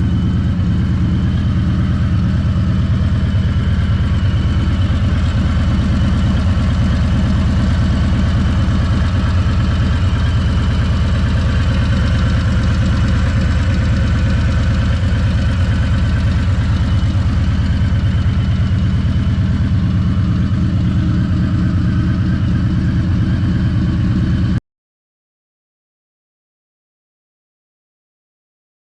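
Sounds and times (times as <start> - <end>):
motorcycle engine idling: 0.0 - 24.6.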